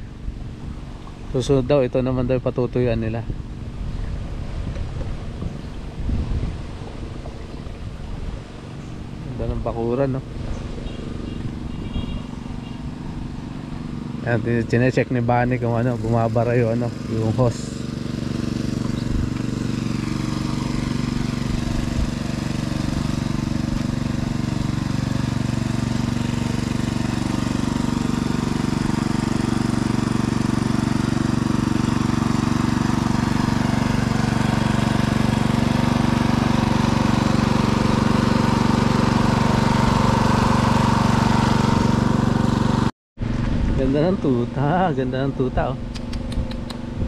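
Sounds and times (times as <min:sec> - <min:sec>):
engine-driven water pump running: 0:00.0 - 0:47.0.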